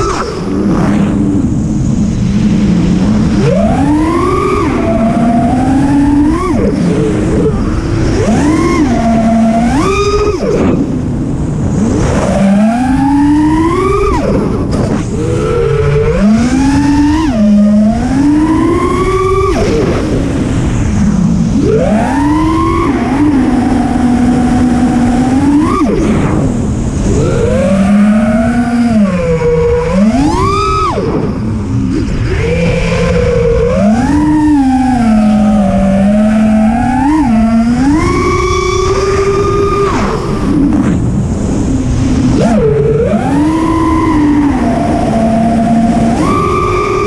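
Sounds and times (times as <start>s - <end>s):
drone motors whining: 0.0s - 47.0s
wind noise on microphone: 0.0s - 47.0s.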